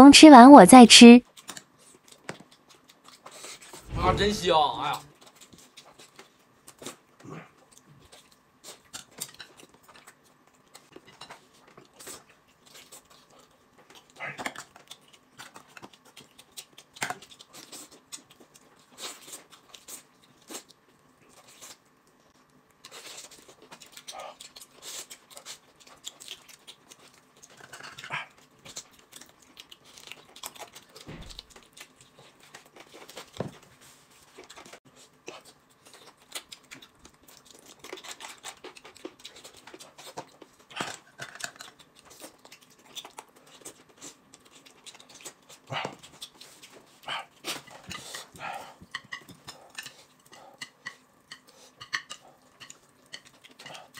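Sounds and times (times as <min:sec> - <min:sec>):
chewing and lip-smacking: 0:01.2 - 0:03.8, 0:05.1 - 0:53.9.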